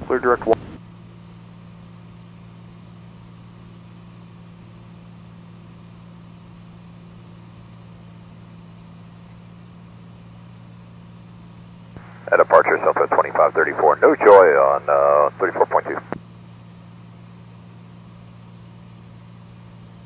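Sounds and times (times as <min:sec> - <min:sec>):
light aircraft engine hum: 0:00.0 - 0:20.0.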